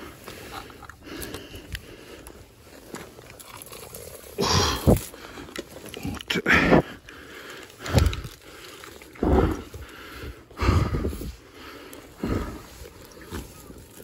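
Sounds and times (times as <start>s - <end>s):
heavy strained breathing: 0.0s - 13.4s.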